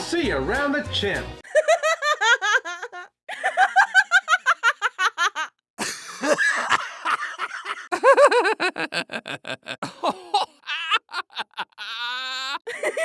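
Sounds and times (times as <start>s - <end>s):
person laughing: 1.4s - 13.0s.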